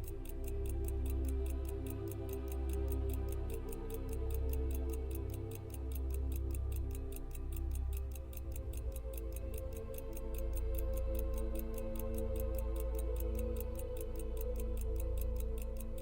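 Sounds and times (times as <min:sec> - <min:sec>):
pocket watch ticking: 0:00.0 - 0:16.0
soft background music: 0:00.0 - 0:16.0.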